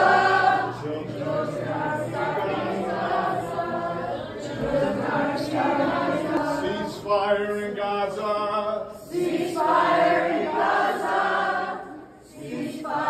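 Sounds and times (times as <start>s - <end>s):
crowd chanting in unison: 0.0s - 13.0s.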